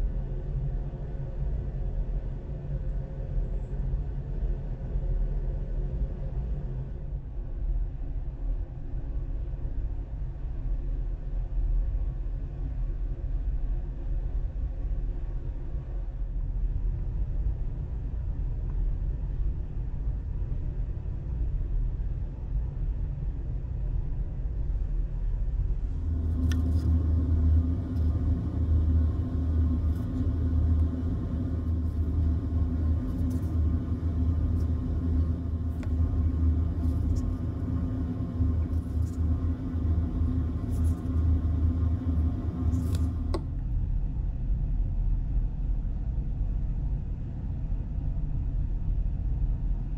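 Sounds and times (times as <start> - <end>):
low room hum: 0.0 - 49.9.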